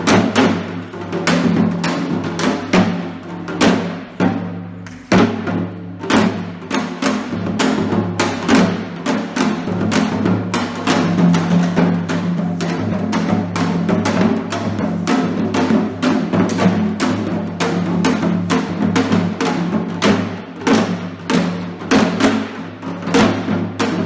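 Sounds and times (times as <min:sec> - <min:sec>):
fast drum strikes: 0:00.0 - 0:24.0.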